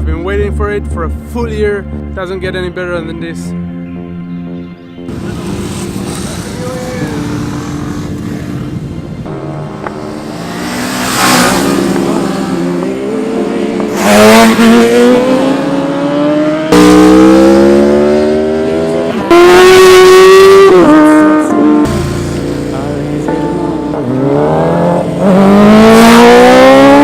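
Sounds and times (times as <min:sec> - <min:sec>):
motorcycle engine accelerating: 0:05.1 - 0:27.0.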